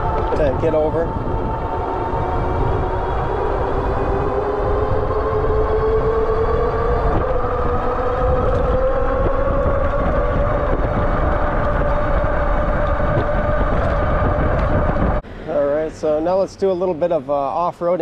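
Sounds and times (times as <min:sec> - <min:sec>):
electric motor whining: 0:00.0 - 0:15.2
wind and road noise: 0:00.0 - 0:18.0.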